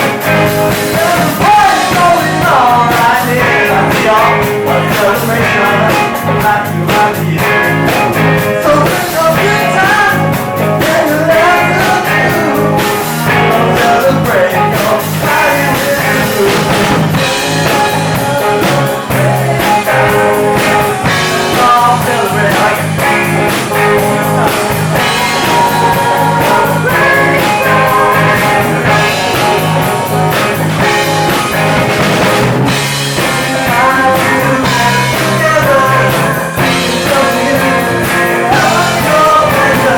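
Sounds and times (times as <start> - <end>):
guitar: 0.0 - 39.9
live rock band playing: 0.0 - 39.9
person singing: 0.1 - 31.7, 32.8 - 39.9.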